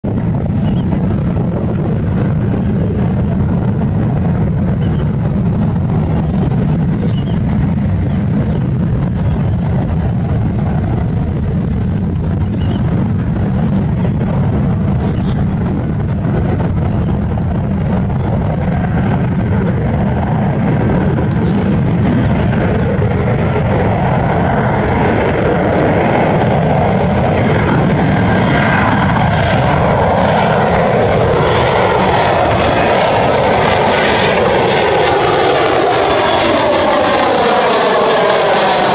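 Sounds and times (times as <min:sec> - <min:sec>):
jet engine roaring: 0:00.0 - 0:38.9.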